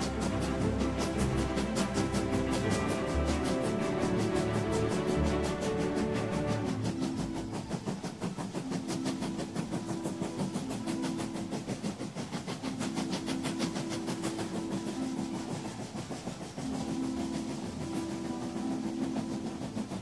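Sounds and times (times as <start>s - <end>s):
steady low tone: 0.0s - 20.0s
steam train chuffing: 0.0s - 20.0s.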